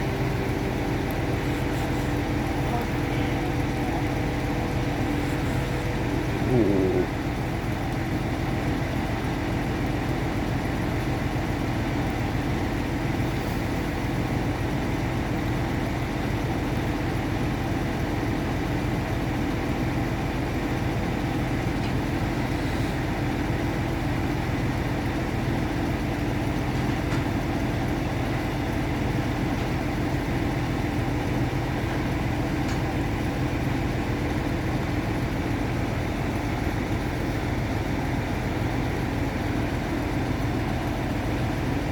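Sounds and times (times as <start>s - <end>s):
boat lift engine idling: 0.0s - 41.9s.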